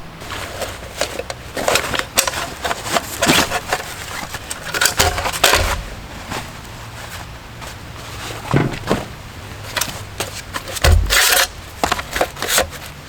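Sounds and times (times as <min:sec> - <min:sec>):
camp gear knocking and rustling: 0:00.1 - 0:13.0.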